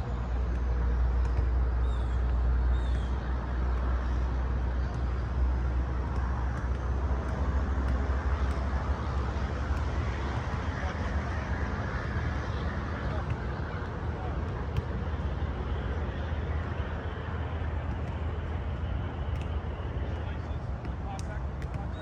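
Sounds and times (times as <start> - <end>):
low outdoor rumble: 0.0 - 22.0
soccer balls being kicked: 0.0 - 22.0.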